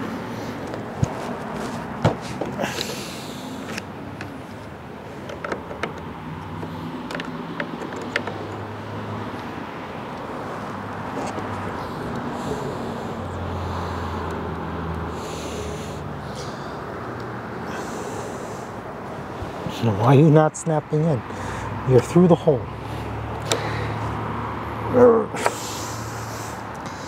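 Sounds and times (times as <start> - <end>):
low engine hum: 0.0 - 20.3, 20.9 - 27.0.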